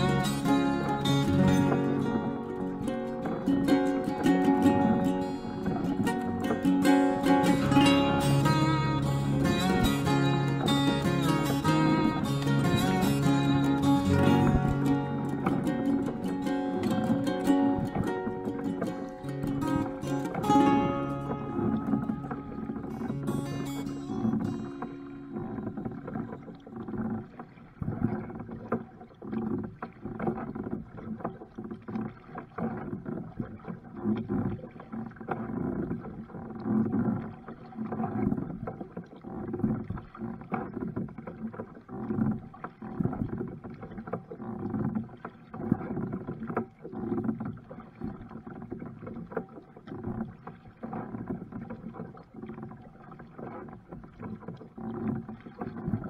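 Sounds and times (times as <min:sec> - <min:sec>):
water splashing around kayak: 0:00.0 - 0:56.0.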